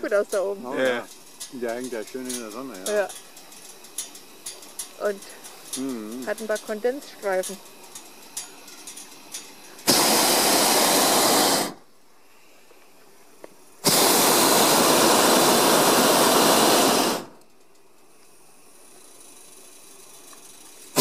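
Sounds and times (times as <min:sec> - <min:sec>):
propane burner firing: 0:00.0 - 0:11.9, 0:13.3 - 0:21.0.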